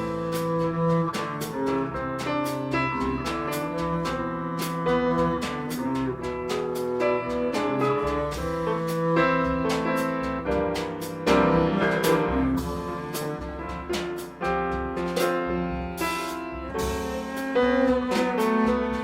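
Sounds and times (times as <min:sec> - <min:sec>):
double bass: 0:00.0 - 0:19.0
drum kit with cymbals: 0:00.0 - 0:19.0
piano chords: 0:00.0 - 0:19.0.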